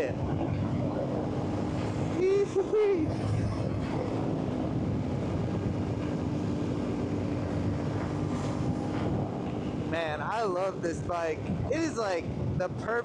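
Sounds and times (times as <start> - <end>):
motorcycle engine cruising: 0.0 - 12.9
wind noise on microphone: 0.0 - 13.0.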